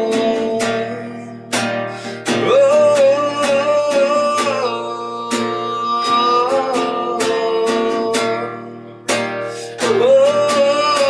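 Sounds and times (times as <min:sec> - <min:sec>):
man singing wordless melody: 0:00.0 - 0:11.0
strummed acoustic guitar: 0:00.0 - 0:11.0.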